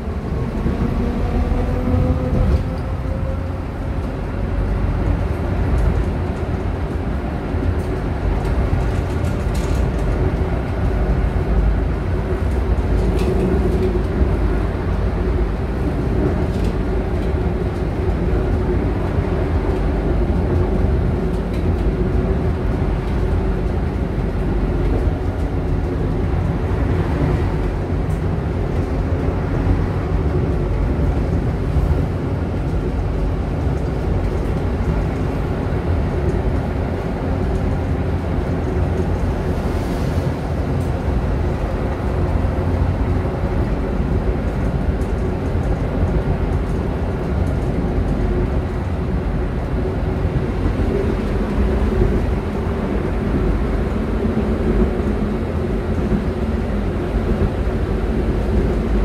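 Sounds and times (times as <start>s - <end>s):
tram rumbling on track: 0.0s - 59.0s.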